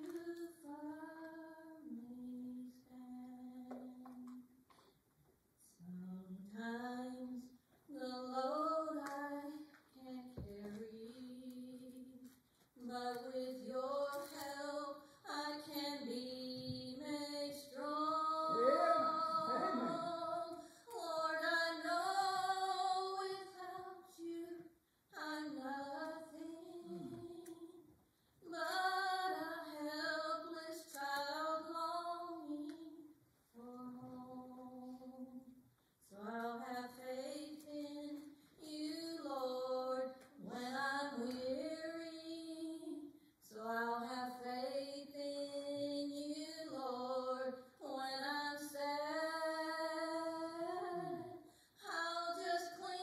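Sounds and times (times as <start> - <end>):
woman singing a hymn: 5.7 - 53.0.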